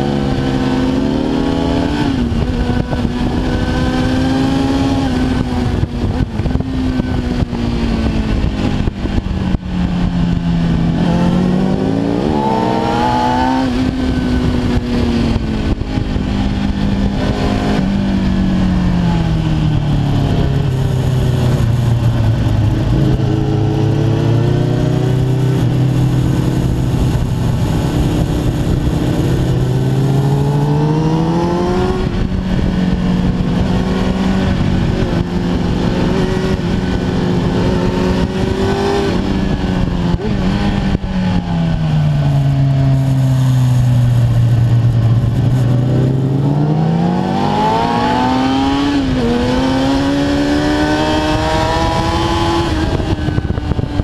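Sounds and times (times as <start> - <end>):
motorcycle engine while riding: 0.0 - 54.0
wind rushing over microphone: 0.0 - 54.0.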